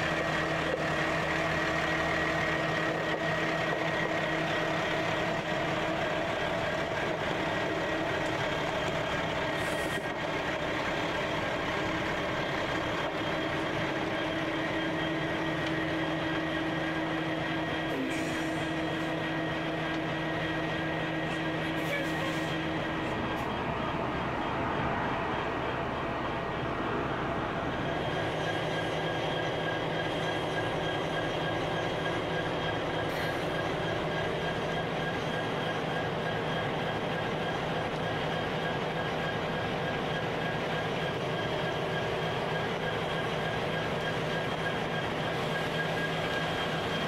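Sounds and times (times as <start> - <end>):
locomotive engines idling: 0.0 - 47.0.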